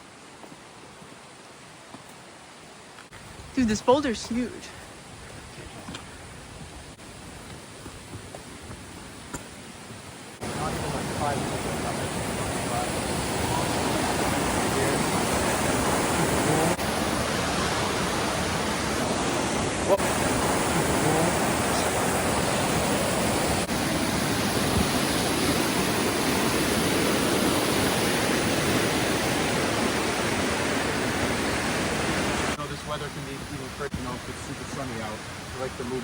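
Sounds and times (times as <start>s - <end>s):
brook water rushing: 0.0s - 36.0s.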